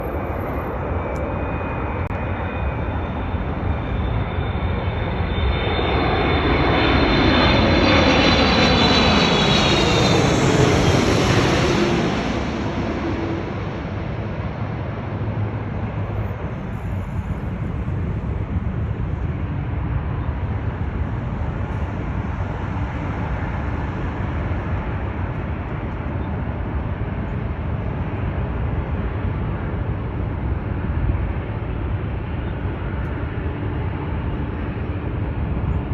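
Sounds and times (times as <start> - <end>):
jet airliner passing by: 0.0 - 35.9.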